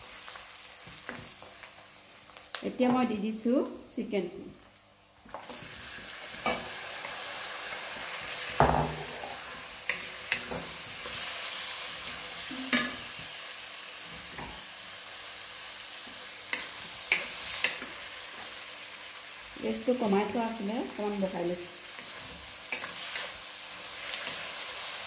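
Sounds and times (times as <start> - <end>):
chicken sizzling in hot oil: 0.0 - 3.9, 4.6 - 25.0.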